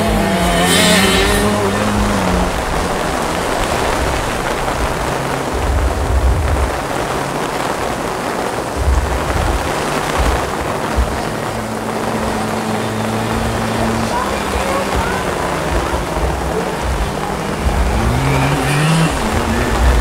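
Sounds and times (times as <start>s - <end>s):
heavy rain falling: 0.0s - 20.0s
low rumbles: 0.0s - 20.0s.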